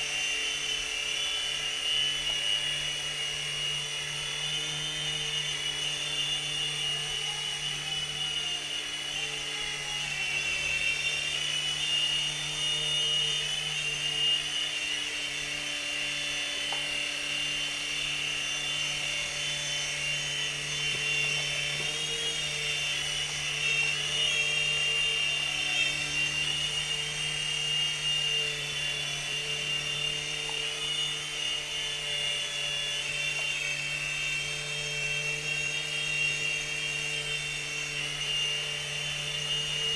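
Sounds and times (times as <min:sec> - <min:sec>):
toy helicopter motor whine: 0:00.0 - 0:39.9.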